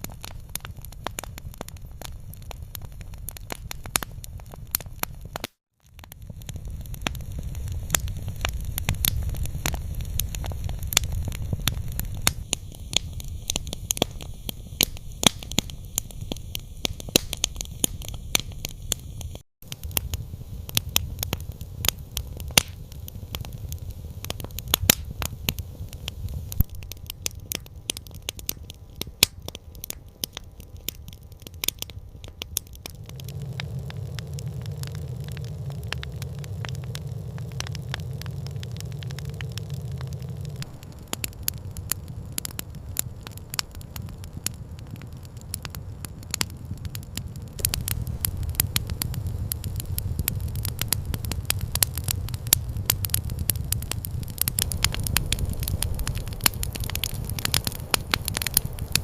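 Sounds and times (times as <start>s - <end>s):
campfire crackling and popping: 0.0s - 59.0s
low rumble of burning fire: 0.0s - 59.0s.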